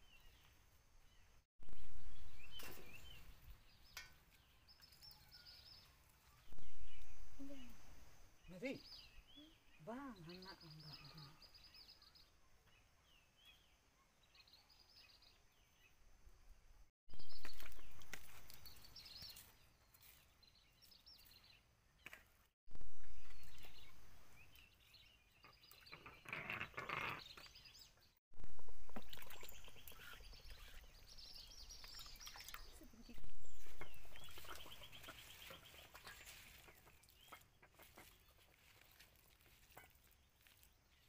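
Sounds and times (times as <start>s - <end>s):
small birds chirping: 0.0s - 16.2s, 17.1s - 41.0s.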